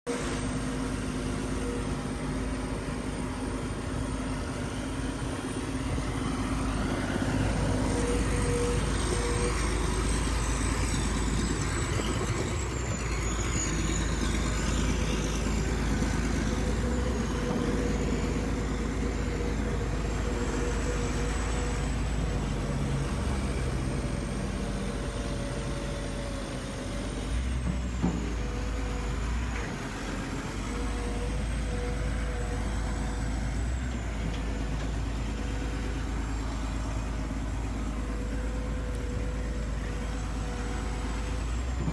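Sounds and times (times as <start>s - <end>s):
construction machinery engine: 0.0s - 41.9s.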